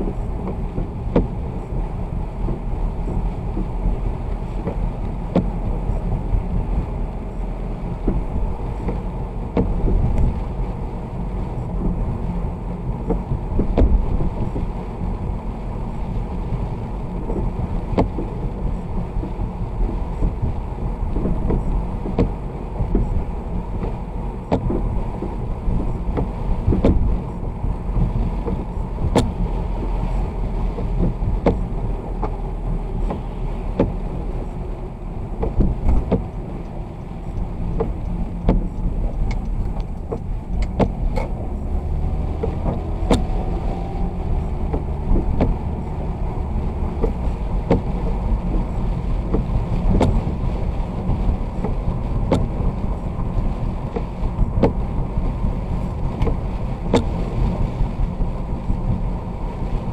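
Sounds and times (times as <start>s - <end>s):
rain ticks: 0.0s - 59.9s
road rumble: 0.0s - 59.9s.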